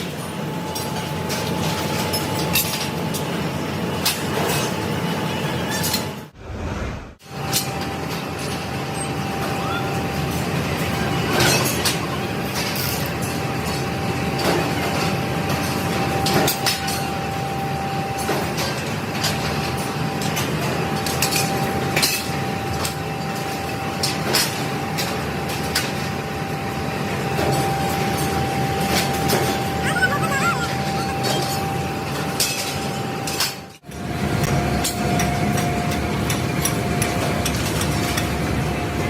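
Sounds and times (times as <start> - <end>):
factory machinery hum: 0.0 - 39.0.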